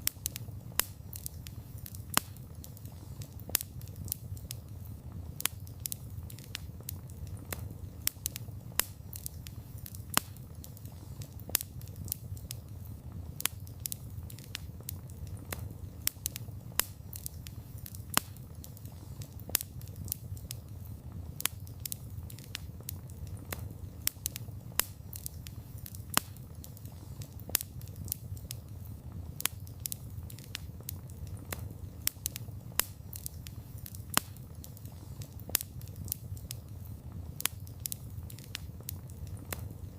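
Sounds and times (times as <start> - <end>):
low rumble of flames: 0.0 - 39.9
wood fire pops and snaps: 0.0 - 39.9.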